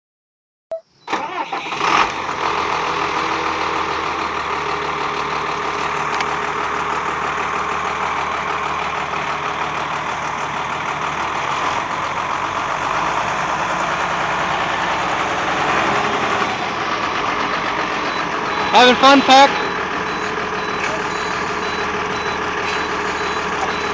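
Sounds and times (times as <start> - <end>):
diesel engine starting and idling: 1.0 - 23.9.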